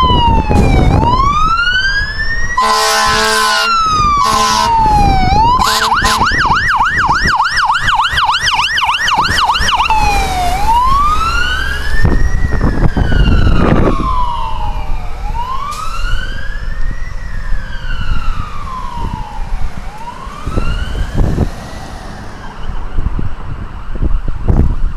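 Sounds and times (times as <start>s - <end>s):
fire truck siren wailing: 0.0s - 24.9s
truck rumble: 0.0s - 24.9s.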